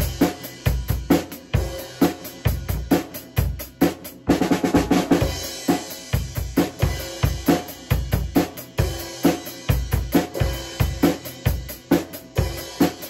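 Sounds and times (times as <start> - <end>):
drum kit playing rock beat: 0.0 - 13.0.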